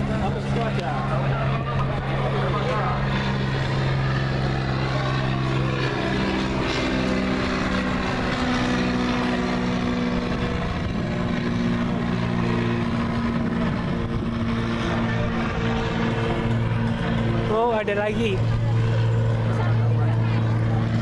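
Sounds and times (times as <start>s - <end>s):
propeller aircraft droning past: 0.0s - 21.0s.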